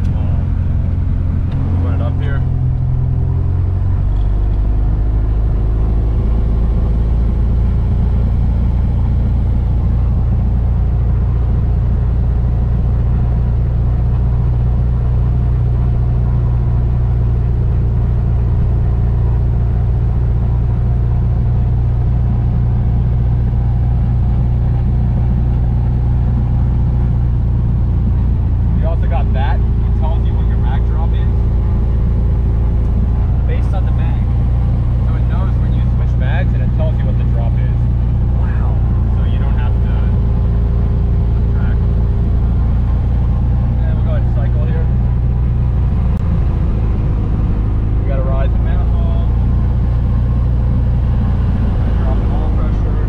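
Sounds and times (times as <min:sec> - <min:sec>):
aircraft engine and propeller: 0:00.0 - 0:53.0.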